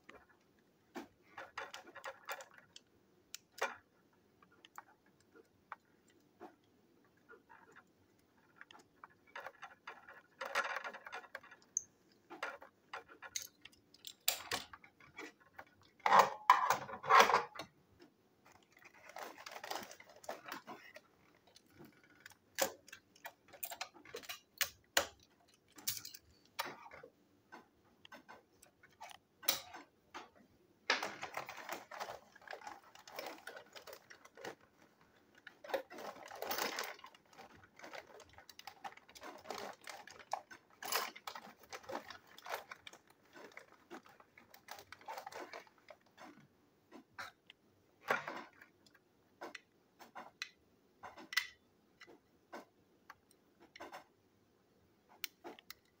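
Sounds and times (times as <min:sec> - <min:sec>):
plastic clatter: 0:00.0 - 0:17.8, 0:18.4 - 0:54.1
plastic parts clicking and rattling: 0:00.0 - 0:54.1, 0:55.1 - 0:56.0.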